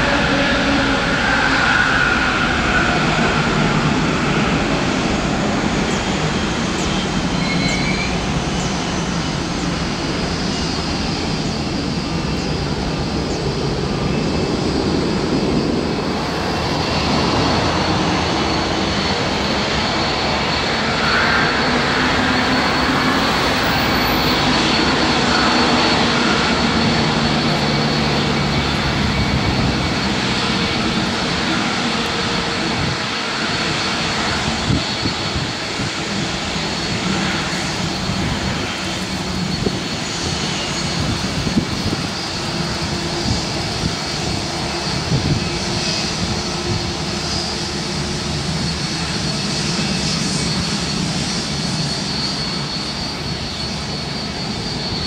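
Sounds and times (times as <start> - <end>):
faint high engine whine: 0.0 - 55.0
jet engine rumble: 0.0 - 55.0.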